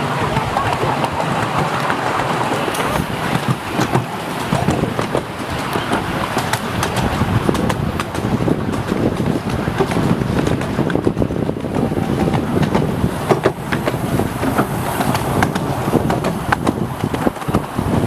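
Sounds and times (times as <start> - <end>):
train wheels rumbling on rails: 0.0 - 18.0
wind on microphone: 0.0 - 18.0.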